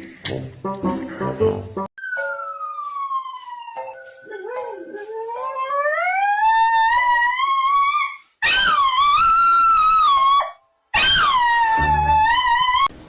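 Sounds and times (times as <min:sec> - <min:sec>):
dog howling: 0:02.0 - 0:12.9.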